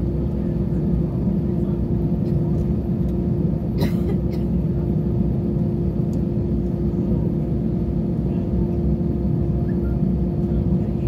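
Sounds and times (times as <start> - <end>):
jet engines rumbling in cabin: 0.0 - 11.0.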